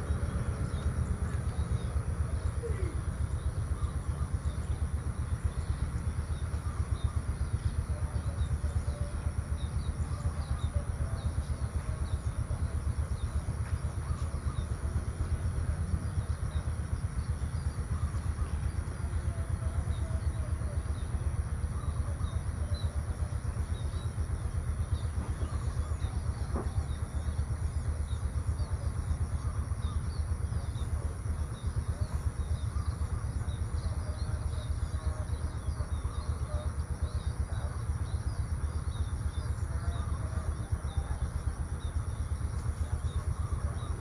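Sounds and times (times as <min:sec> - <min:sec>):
constant high hiss: 0:00.0 - 0:44.0
faint bird chirps: 0:00.0 - 0:44.0.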